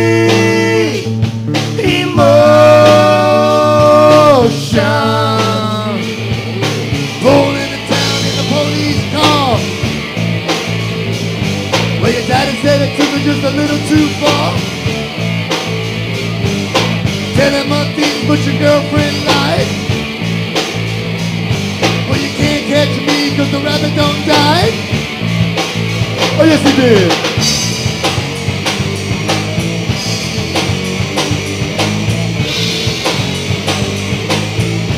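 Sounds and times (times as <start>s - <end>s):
bass line: 0.0s - 34.9s
drum kit: 0.0s - 34.9s
electric guitar lead: 0.0s - 34.9s.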